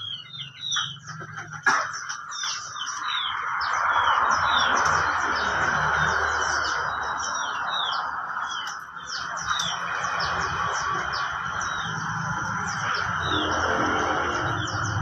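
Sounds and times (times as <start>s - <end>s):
many small birds chirping: 0.0s - 15.0s.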